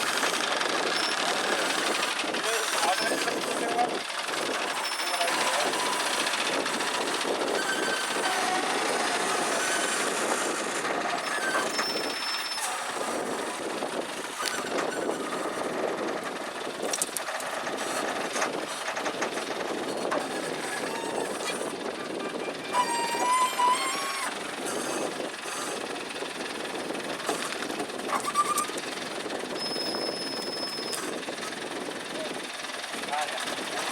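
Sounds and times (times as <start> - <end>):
heavy machinery clatter: 0.0 - 33.9.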